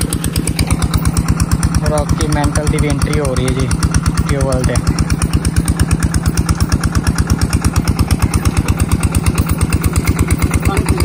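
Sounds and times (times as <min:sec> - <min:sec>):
pump engine running: 0:00.0 - 0:11.0.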